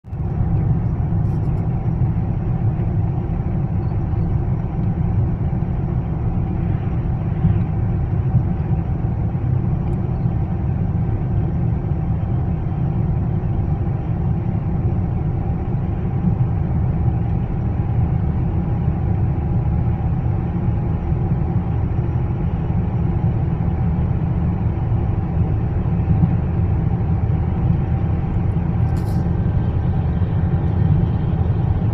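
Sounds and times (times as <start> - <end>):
road and engine rumble: 0.0 - 31.9.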